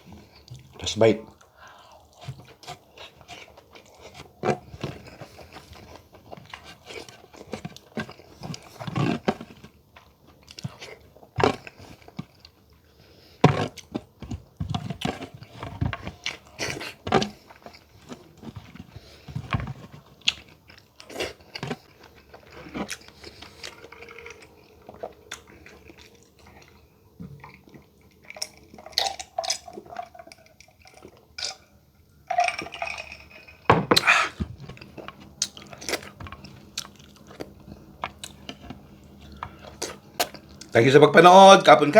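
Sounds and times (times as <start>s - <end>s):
person chewing and crunching: 0.0s - 31.7s, 32.5s - 40.8s.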